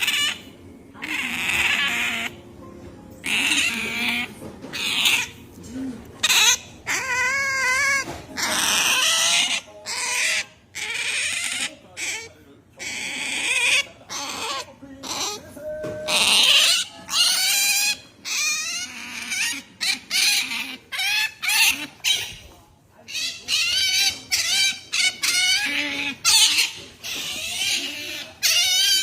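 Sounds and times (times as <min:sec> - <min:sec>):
otter squeaky calls: 0:00.0 - 0:02.4, 0:03.2 - 0:05.4, 0:06.2 - 0:15.4, 0:16.1 - 0:22.5, 0:23.1 - 0:29.0.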